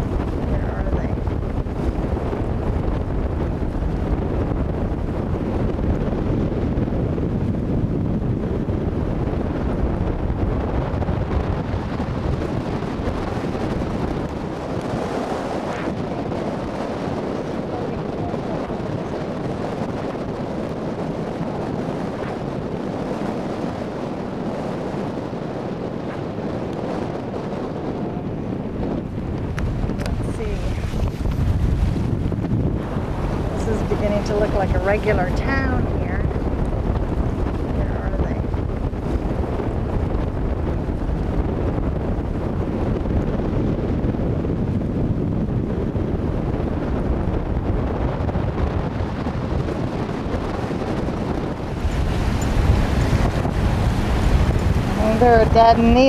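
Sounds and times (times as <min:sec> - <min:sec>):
strong wind on microphone: 0:00.0 - 0:56.0.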